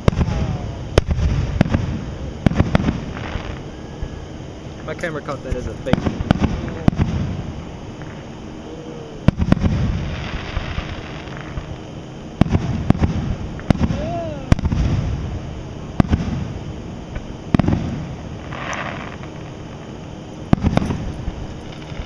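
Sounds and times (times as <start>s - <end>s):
fireworks crackling: 0.0s - 3.7s, 4.8s - 8.4s, 9.2s - 22.0s
fireworks booming: 0.0s - 22.0s.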